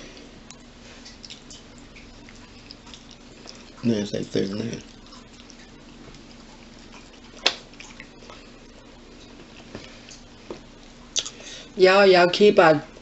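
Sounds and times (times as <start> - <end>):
faint chewing: 0.0 - 11.7
steady low hum: 0.0 - 13.0.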